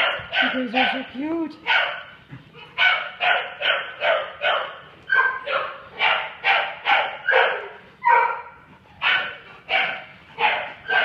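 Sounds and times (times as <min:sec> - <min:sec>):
dogs barking in play: 0:00.0 - 0:11.0.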